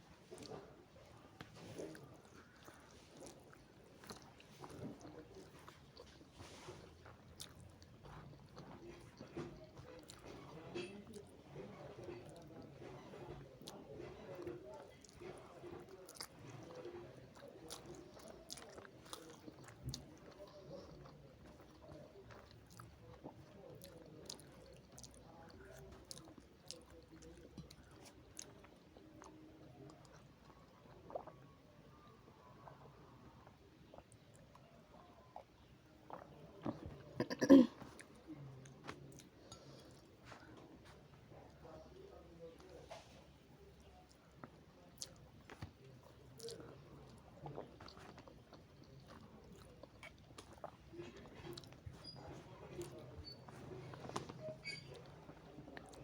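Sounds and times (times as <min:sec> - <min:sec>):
chewing noodles: 0:00.0 - 0:56.0.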